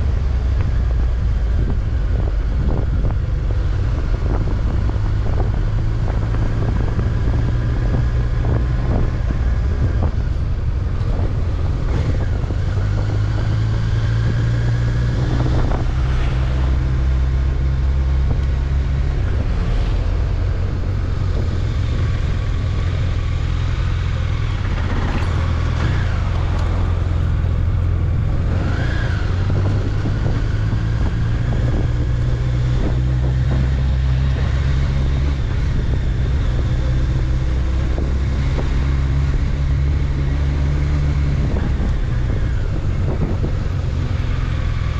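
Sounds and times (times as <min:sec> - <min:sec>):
motorcycle engine running: 0:00.0 - 0:44.9
wind noise on microphone: 0:00.0 - 0:44.9.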